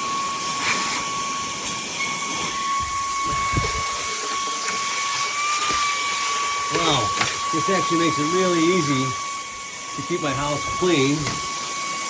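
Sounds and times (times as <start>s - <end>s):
handheld vacuum motor whine: 0.0s - 12.0s
air rushing through nozzle: 0.6s - 11.6s.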